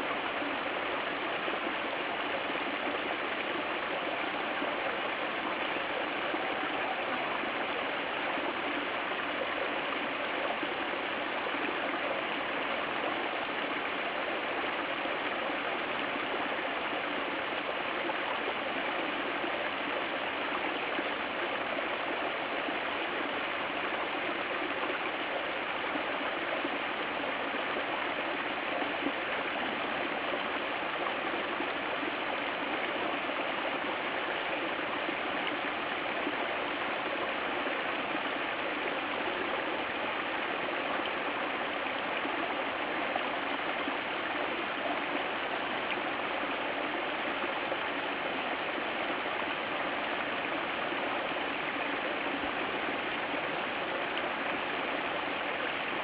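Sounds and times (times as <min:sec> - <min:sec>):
waterfall splashing over rocks: 0:00.0 - 0:56.0.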